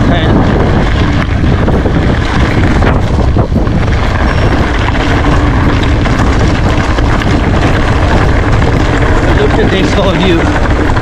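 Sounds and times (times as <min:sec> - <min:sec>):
bike rattling over stones: 0:00.0 - 0:11.0
tyres crunching on gravel: 0:00.0 - 0:11.0
wind buffeting microphone: 0:00.0 - 0:11.0.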